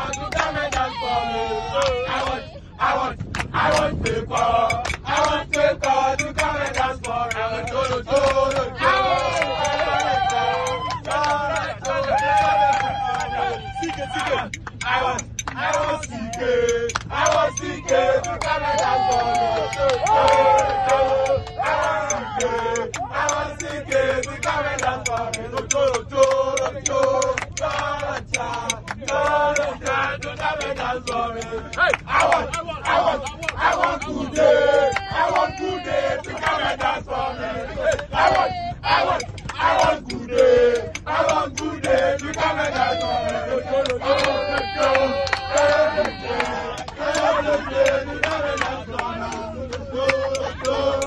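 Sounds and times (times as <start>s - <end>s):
sharp rhythmic beats: 0.0s - 2.4s, 3.2s - 51.0s
group chanting and singing: 0.0s - 51.0s.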